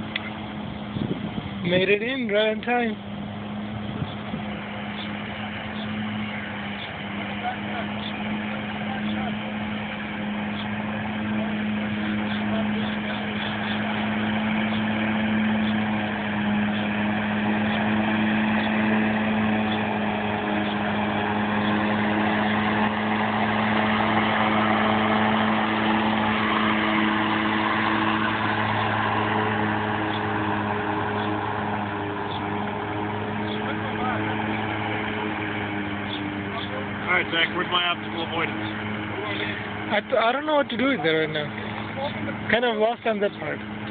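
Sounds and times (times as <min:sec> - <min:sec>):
robotic lawnmower hum: 0:00.0 - 0:43.9.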